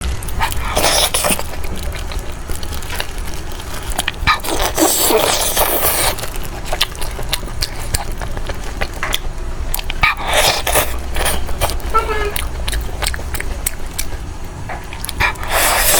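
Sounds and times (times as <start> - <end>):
biting and chewing food: 0.1 - 15.9.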